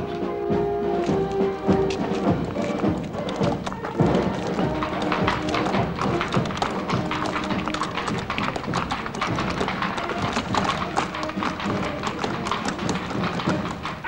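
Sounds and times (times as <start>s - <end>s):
faint music: 0.0s - 14.0s
horse hooves on cobblestones: 0.0s - 14.0s.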